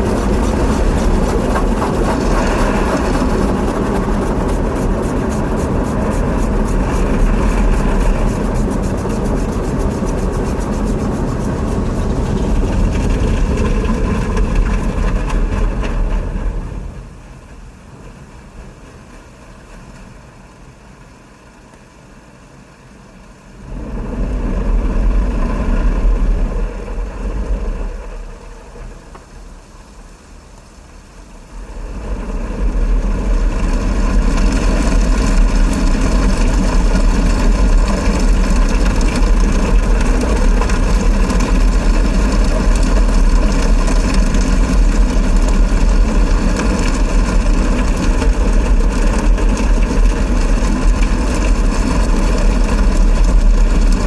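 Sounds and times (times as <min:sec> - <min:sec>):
car wash machinery rumble: 0:00.0 - 0:54.0.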